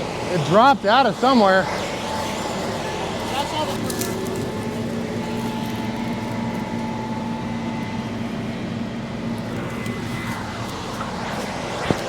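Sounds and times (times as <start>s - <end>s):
large engine running: 0.0s - 12.0s.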